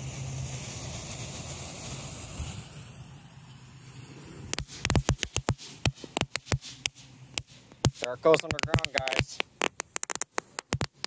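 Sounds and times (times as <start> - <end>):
firework crackling: 0.0 - 11.0
fuse hissing: 0.0 - 11.0.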